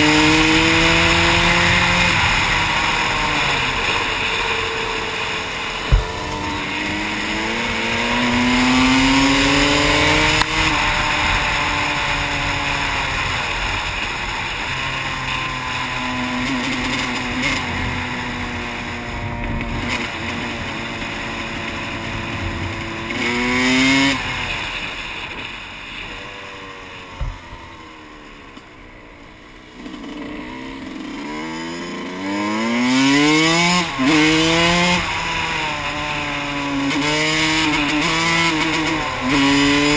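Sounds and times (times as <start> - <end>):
dirt bike engine revving: 0.0 - 25.5, 29.7 - 39.9.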